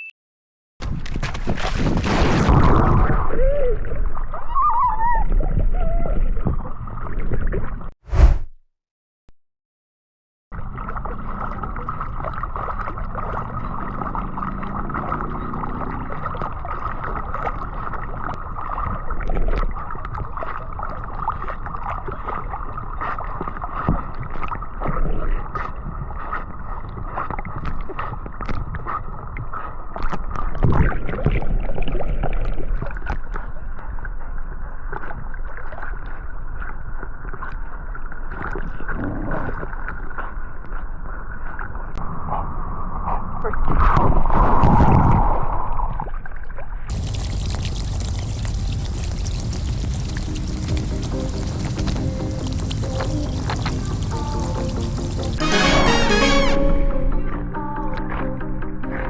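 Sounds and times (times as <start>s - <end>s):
water sloshing and gurgling: 0.9s - 8.5s, 10.6s - 42.0s, 43.6s - 55.6s.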